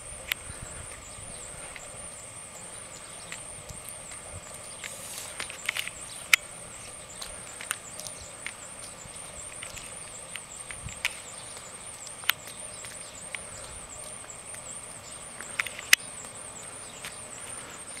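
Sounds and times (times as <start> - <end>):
hooves and boots on pavement: 0.0 - 18.0.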